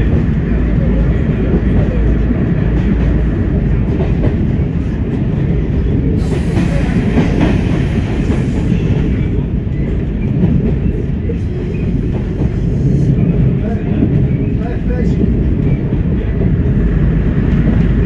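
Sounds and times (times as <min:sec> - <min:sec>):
diesel train rumble: 0:00.0 - 0:18.0.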